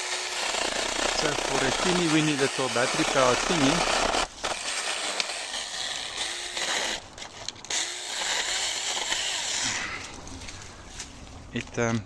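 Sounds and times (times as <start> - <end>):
electric mini chainsaw running: 0.0 - 10.2.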